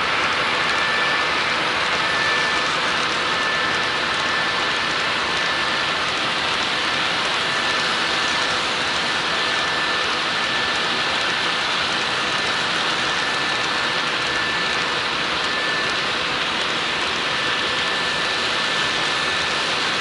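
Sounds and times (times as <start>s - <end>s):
faint high whine: 0.0s - 20.0s
model train wheels rolling on rail: 0.0s - 20.0s.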